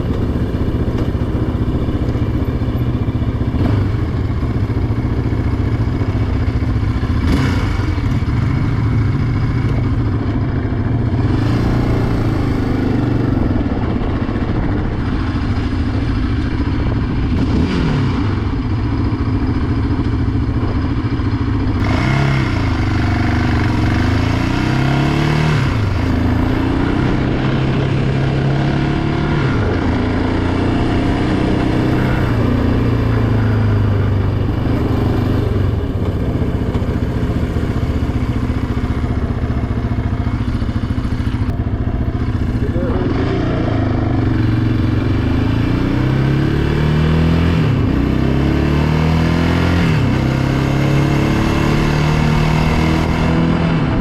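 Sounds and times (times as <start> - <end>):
quad engine revving: 0.0 - 5.0, 6.7 - 54.0.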